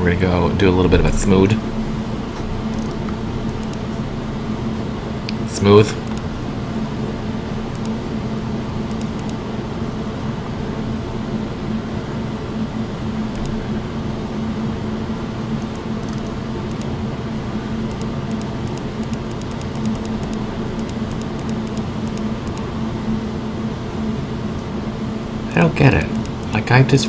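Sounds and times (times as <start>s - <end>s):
fan humming: 0.0s - 27.0s.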